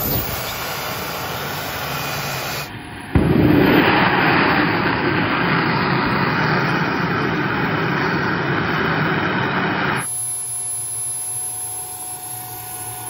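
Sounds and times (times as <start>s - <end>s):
jet engine roaring: 0.0s - 13.0s
thin jet whine: 0.0s - 13.0s.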